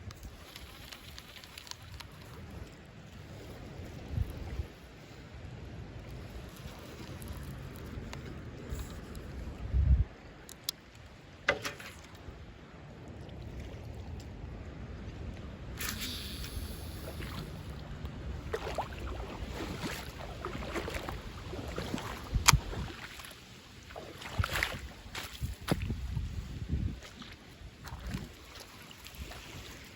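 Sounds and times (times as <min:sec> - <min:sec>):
water lapping at lake edge: 0:00.0 - 0:29.9
wind rumbling on microphone: 0:00.0 - 0:29.9.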